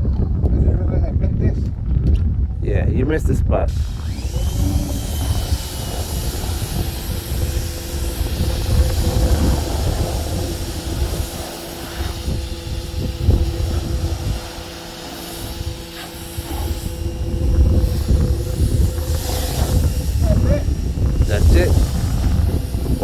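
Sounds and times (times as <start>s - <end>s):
wind rumble on microphone: 0.0s - 23.0s
pressure washer motor hum: 3.7s - 23.0s
rushing water jet: 3.7s - 23.0s.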